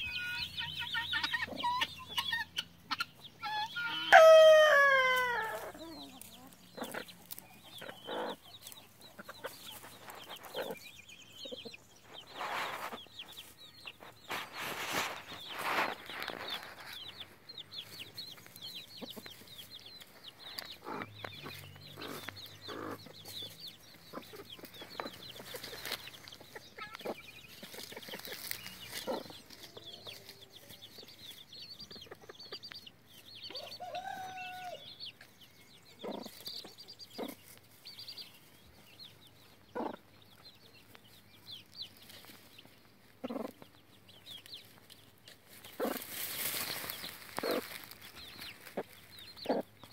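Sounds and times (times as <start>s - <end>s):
hen clucking: 0.0s - 32.9s, 33.5s - 49.9s
chicks peeping: 0.0s - 49.9s.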